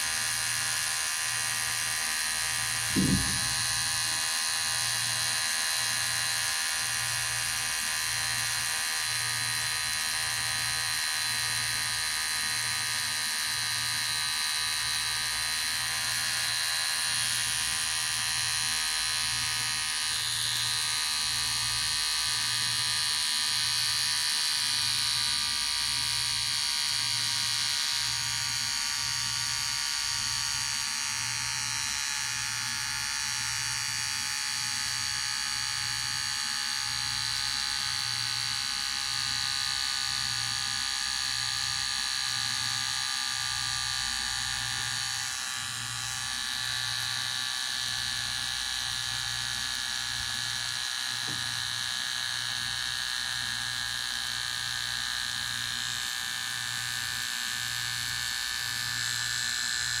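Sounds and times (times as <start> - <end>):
electric hair clipper buzzing: 0.0 - 60.0.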